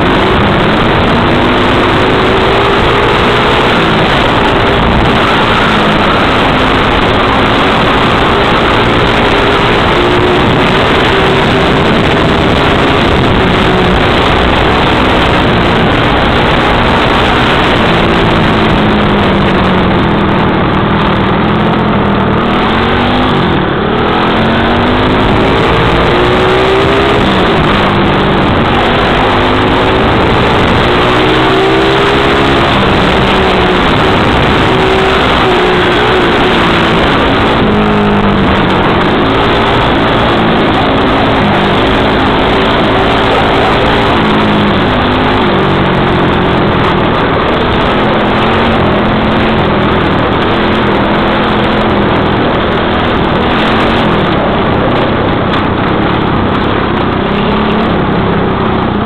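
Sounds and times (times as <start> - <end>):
dirt bike engine revving: 0.0 - 59.0
wind noise on microphone: 0.0 - 59.0.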